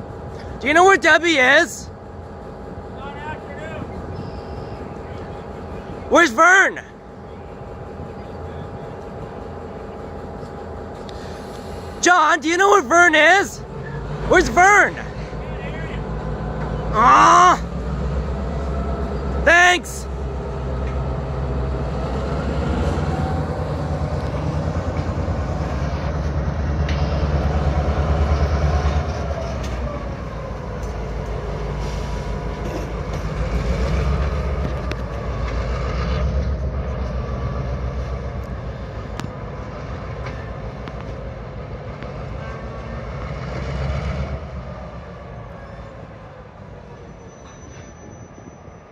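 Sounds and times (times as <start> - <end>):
diesel locomotive engine rumbling: 0.0 - 48.9.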